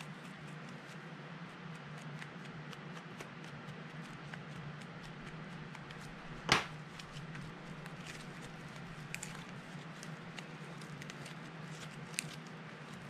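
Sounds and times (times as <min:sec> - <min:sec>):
low steady hum: 0:00.0 - 0:13.0
slime squishing and crackling: 0:00.0 - 0:13.0.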